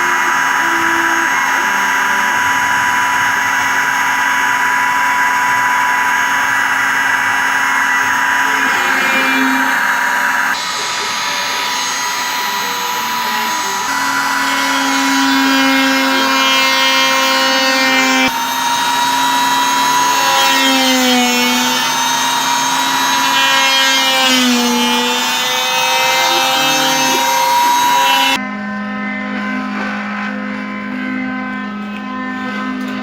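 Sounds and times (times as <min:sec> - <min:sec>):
router cutting noise: 0:00.0 - 0:33.0
router motor whine: 0:00.0 - 0:33.0.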